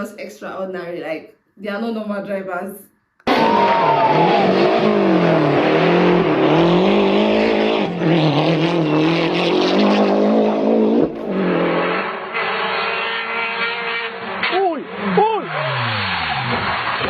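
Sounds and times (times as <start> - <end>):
rally car engine revving: 3.3 - 17.0
road and tyre noise: 3.3 - 17.0.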